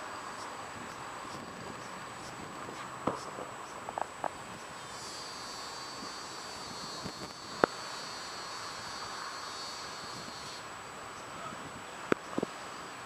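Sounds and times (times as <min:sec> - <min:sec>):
high-pitched insect trill: 0:00.0 - 0:02.4, 0:03.2 - 0:11.5
low hiss: 0:00.0 - 0:13.0.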